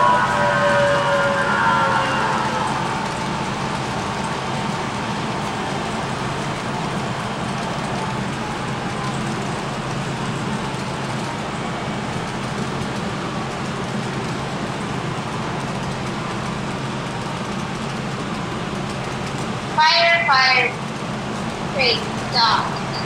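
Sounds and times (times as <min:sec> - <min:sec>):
model train rolling on track: 0:00.0 - 0:23.0.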